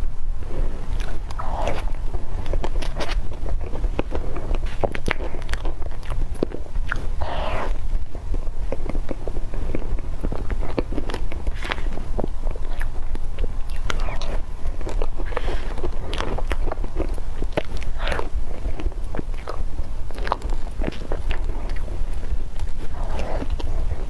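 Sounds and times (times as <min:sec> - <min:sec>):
low rumble: 0:00.0 - 0:24.0
person chewing wetly: 0:00.4 - 0:24.0.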